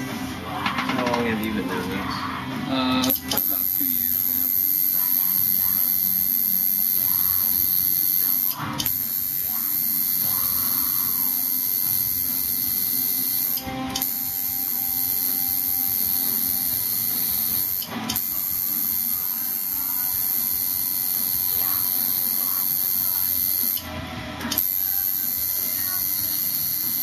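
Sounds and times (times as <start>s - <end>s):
tattoo machine buzzing: 2.3s - 27.0s.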